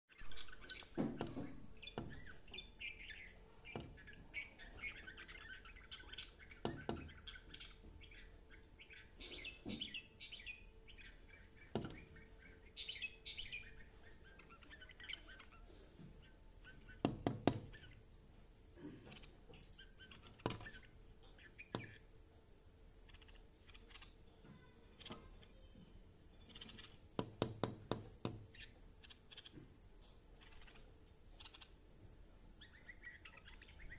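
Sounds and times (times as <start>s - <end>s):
bird chirping high calls: 0.1s - 18.1s, 19.1s - 22.1s, 23.0s - 27.1s, 28.4s - 29.6s, 32.6s - 33.9s.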